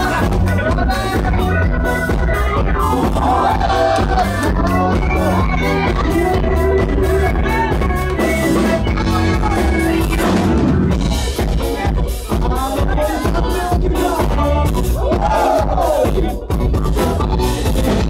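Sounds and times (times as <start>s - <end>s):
loud dance music: 0.0s - 18.0s.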